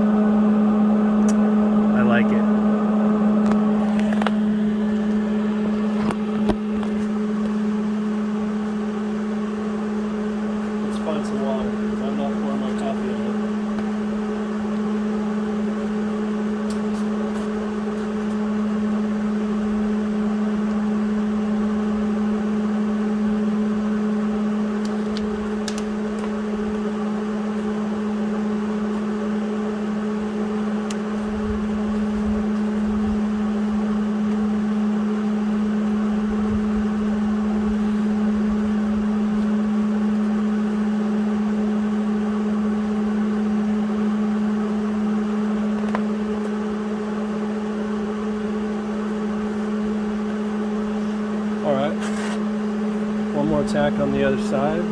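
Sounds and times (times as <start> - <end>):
steady machine hum: 0.0 - 54.9.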